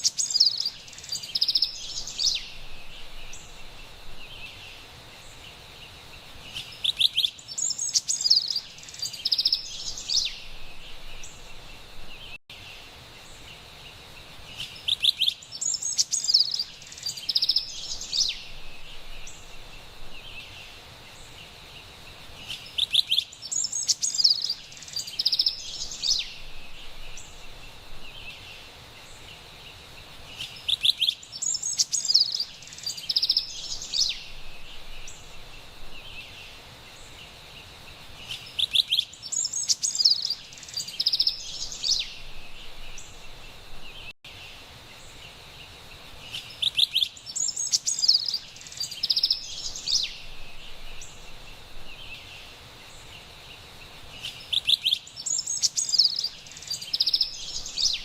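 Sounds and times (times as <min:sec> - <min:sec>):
distant forest birdsong: 0:00.0 - 0:58.0.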